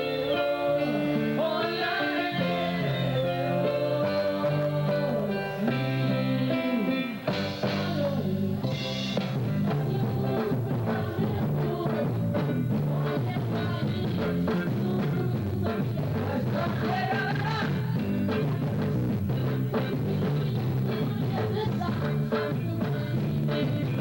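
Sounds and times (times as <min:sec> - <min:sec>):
band music with drum kit: 0:00.0 - 0:24.0.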